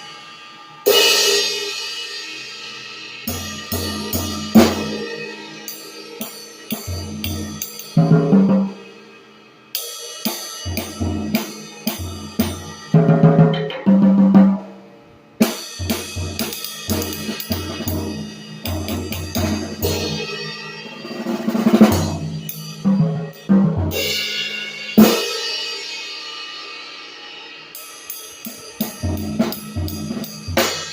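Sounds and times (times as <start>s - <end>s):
cymbal strikes ringing: 0.0s - 13.0s, 14.6s - 30.9s.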